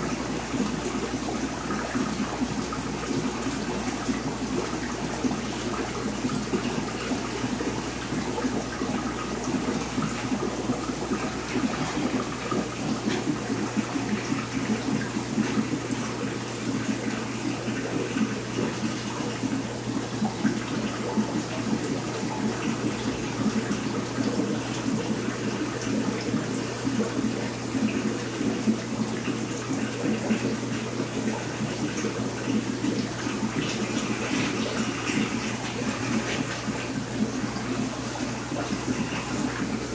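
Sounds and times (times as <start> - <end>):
low pump hum: 0.0 - 39.9
water rushing in tank: 0.0 - 39.9.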